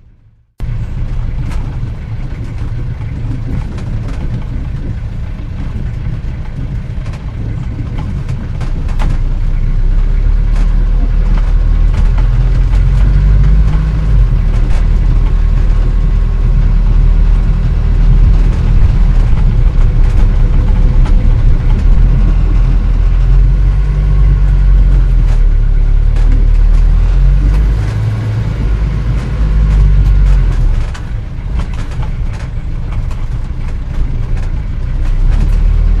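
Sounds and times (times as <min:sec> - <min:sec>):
old car engine rumbling: 0:00.0 - 0:36.0
clicks and rattles: 0:01.0 - 0:09.8, 0:10.4 - 0:36.0.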